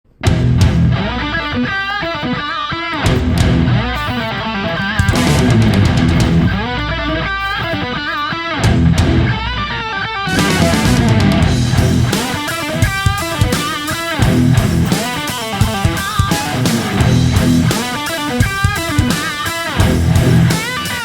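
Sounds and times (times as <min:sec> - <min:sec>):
rock music with distorted guitar: 0:00.1 - 0:21.0.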